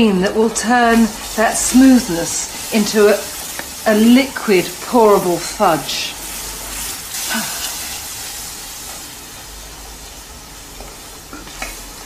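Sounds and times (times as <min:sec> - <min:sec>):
toffee hissing and sizzling: 0:00.0 - 0:12.0.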